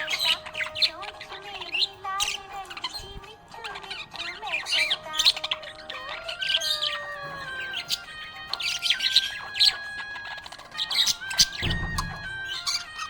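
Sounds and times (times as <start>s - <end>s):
background music with held tones: 0.0s - 13.0s
budgerigar chirping: 0.0s - 13.0s.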